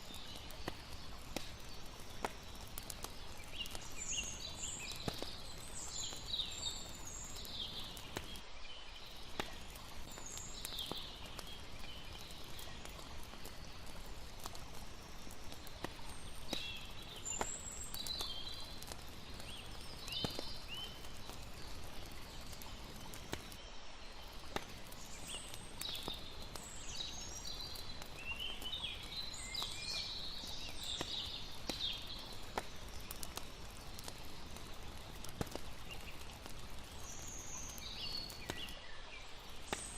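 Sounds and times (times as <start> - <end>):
campfire crackling: 0.0 - 39.9
flowing water: 0.0 - 39.9.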